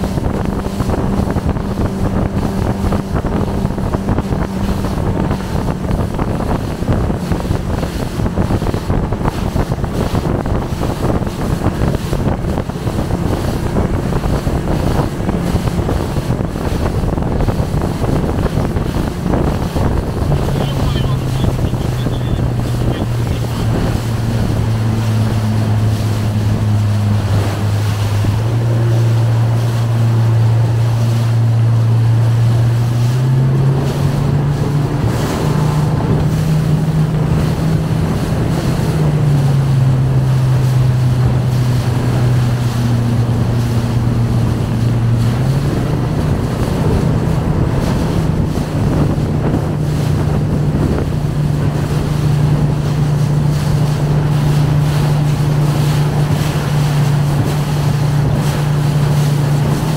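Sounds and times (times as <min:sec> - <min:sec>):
motorboat engine running: 0:00.0 - 0:59.9
water rushing past hull: 0:00.0 - 0:59.9
wind buffeting microphone: 0:00.0 - 0:59.9.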